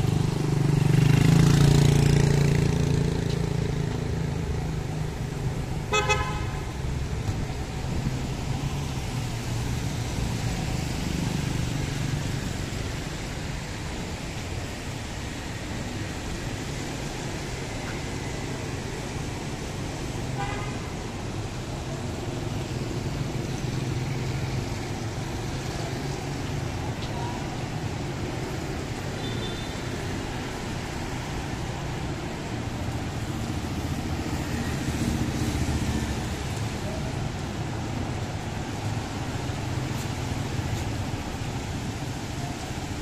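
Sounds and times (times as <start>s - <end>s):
vehicle engines passing: 0.0s - 43.0s.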